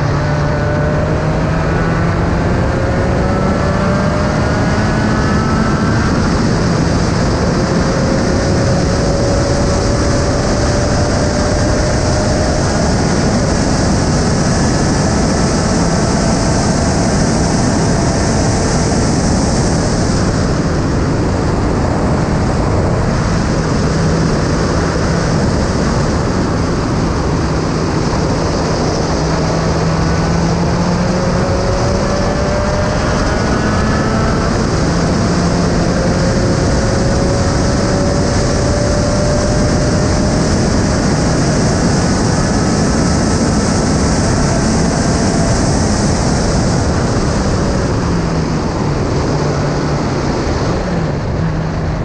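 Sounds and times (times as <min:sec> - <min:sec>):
race car engine accelerating: 0:00.0 - 0:52.0
wind and road noise rushing: 0:00.0 - 0:52.0.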